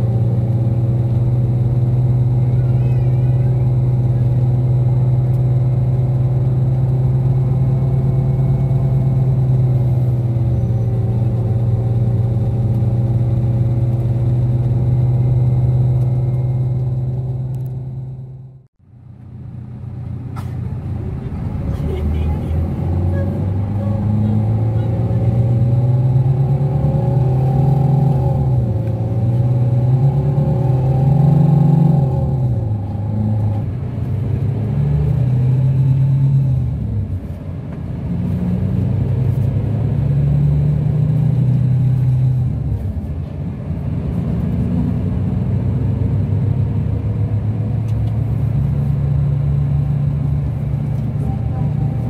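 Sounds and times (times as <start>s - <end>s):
bus diesel engine shifting gears: 0.0s - 52.0s.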